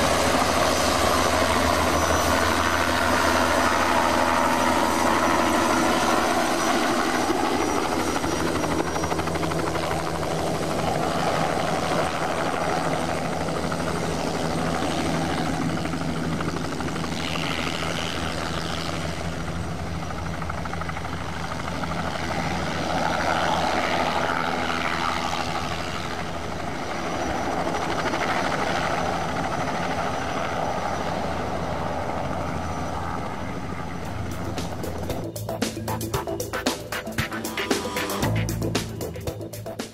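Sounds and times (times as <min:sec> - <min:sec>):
helicopter engine hum: 0:00.0 - 0:39.9
helicopter rotor noise: 0:00.0 - 0:39.9.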